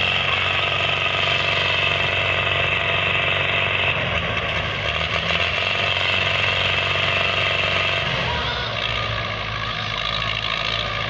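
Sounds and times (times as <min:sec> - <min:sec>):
tractor diesel engines straining: 0:00.0 - 0:11.0.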